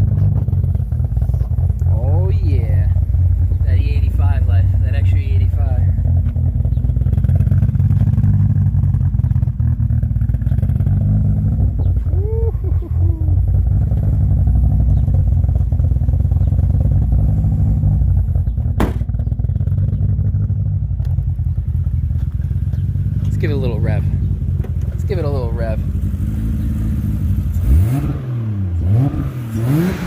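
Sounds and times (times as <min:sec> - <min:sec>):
car engine idling loudly: 0:00.0 - 0:27.9.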